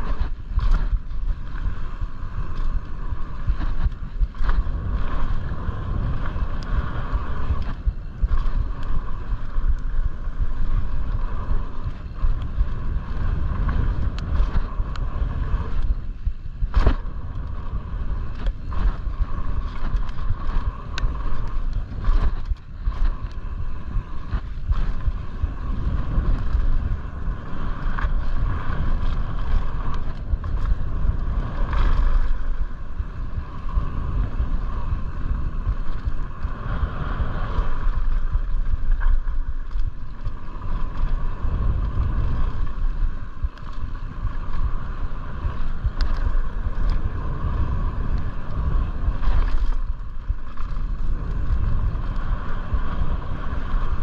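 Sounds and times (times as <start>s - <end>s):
bike knocking and rattling: 0.0s - 54.0s
bike tyre noise: 0.0s - 54.0s
wind buffeting microphone: 0.0s - 54.0s.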